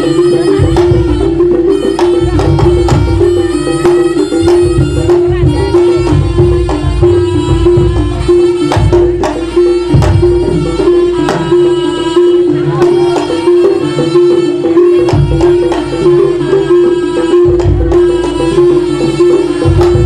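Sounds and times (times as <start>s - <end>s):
deep drum beats: 0.0s - 20.0s
hand drum strokes: 0.0s - 20.0s
nasal reed instrument melody: 0.0s - 20.0s
sharp percussion hits: 0.0s - 20.0s.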